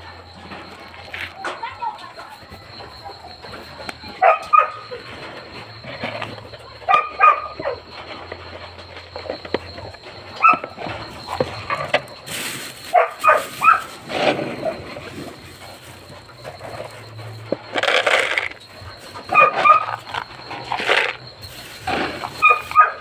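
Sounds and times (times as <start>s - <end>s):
dogs barking: 0.0s - 23.0s.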